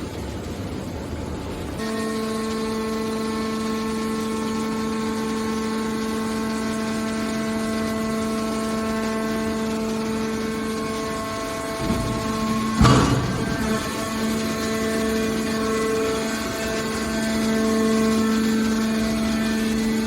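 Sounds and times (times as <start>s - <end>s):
hydraulic machine whine and hum: 0.0s - 20.0s.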